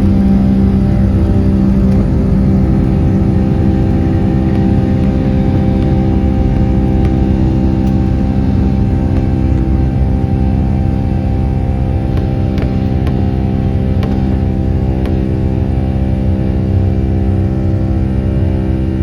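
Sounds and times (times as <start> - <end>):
jet engines drone inside cabin: 0.0 - 19.0.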